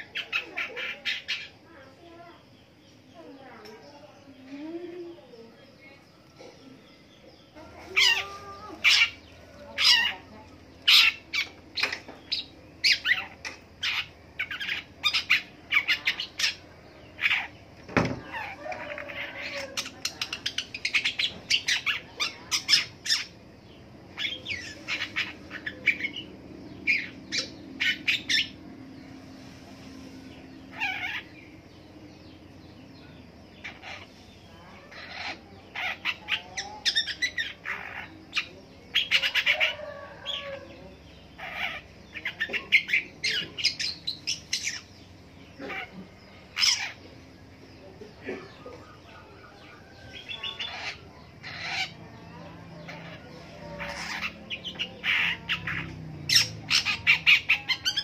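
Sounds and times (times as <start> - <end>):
bird chirping and chattering: 0.0 - 29.4, 30.2 - 58.0.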